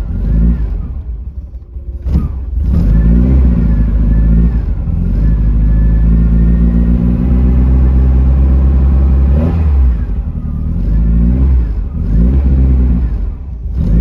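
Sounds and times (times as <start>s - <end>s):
engine throttle blips: 0.0s - 14.0s.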